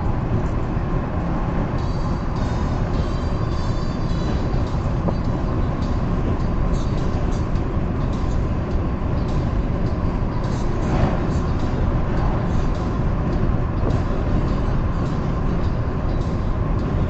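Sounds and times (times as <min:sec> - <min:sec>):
car driving on highway: 0:00.0 - 0:17.0.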